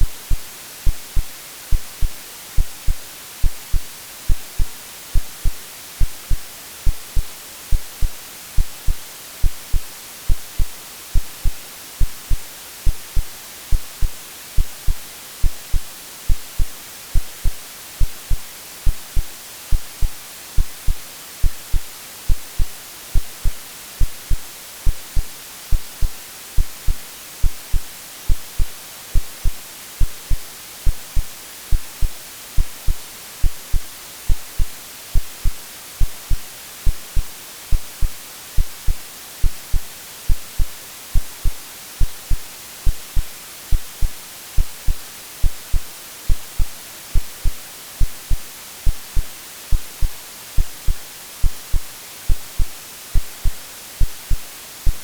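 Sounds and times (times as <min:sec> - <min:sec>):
heartbeat thumps: 0:00.0 - 0:55.0
white noise: 0:00.0 - 0:55.0.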